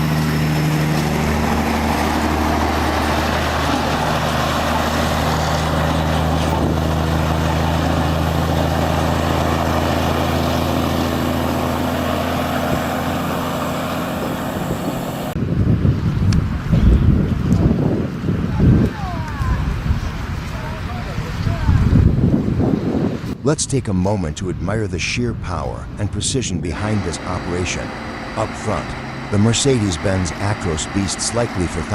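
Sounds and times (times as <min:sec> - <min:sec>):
truck diesel engine running: 0:00.0 - 0:21.6, 0:24.8 - 0:31.9
road and tyre noise: 0:00.0 - 0:31.9.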